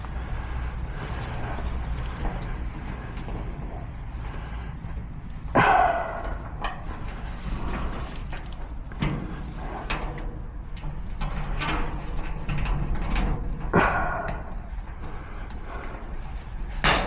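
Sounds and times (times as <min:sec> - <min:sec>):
steady low rumble: 0:00.0 - 0:17.0
lock picks clicking and scraping: 0:00.9 - 0:04.4, 0:06.0 - 0:17.0.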